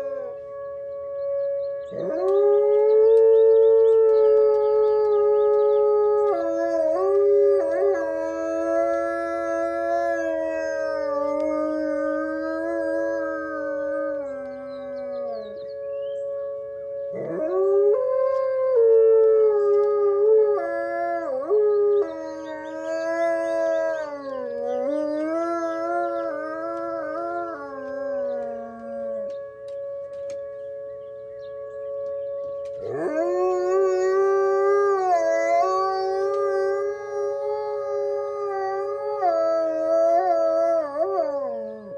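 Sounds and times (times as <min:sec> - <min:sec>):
dog howling: 0:00.0 - 0:00.5, 0:01.8 - 0:15.8, 0:17.1 - 0:30.5, 0:32.0 - 0:41.9
two-note warning siren: 0:00.0 - 0:41.9.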